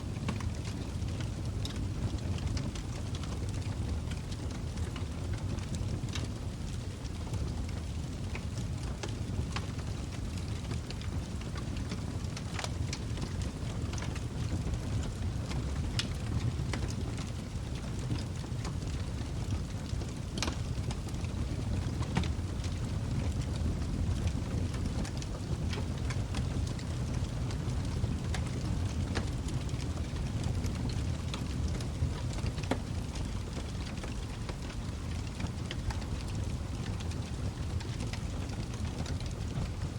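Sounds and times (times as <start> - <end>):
fire flames rumbling: 0.0 - 39.9
wood crackling and popping: 0.1 - 39.9.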